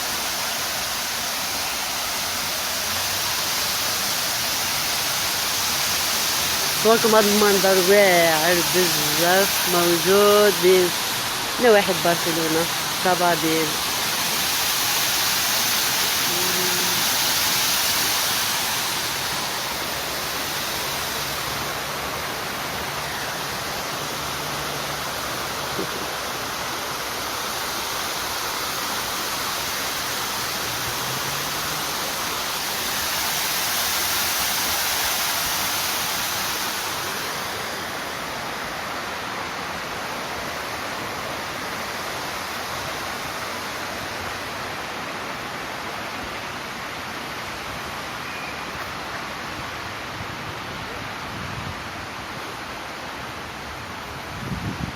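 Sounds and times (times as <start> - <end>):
running water rushing: 0.0 - 54.9.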